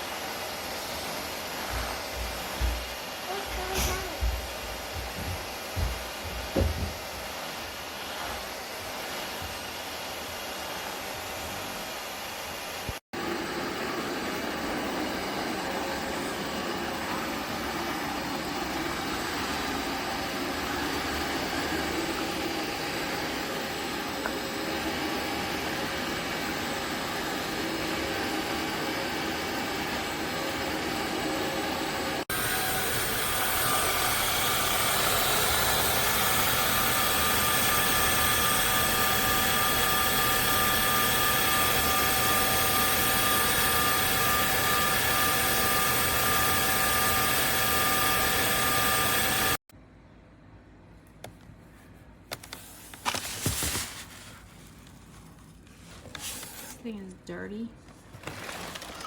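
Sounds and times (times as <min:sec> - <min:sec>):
vacuum cleaner motor whining: 0:00.0 - 0:49.6, 0:58.2 - 0:59.0.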